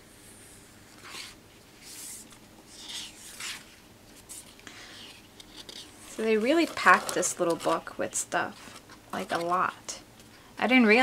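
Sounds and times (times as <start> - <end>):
paper pages turning: 0.9 - 9.8.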